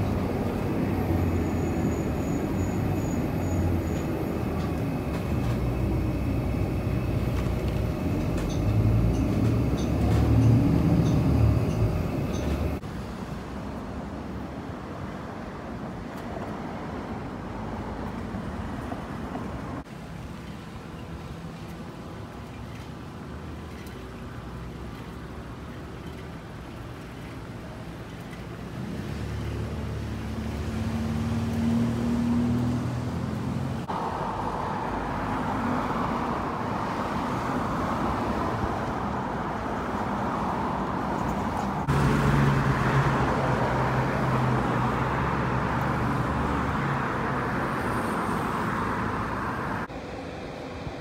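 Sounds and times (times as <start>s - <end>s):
car engines passing by: 0.0s - 51.0s.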